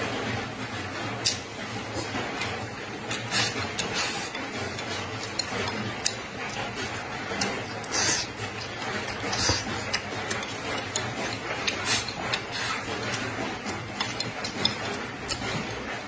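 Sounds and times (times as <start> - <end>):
man chewing food: 0.8 - 16.0.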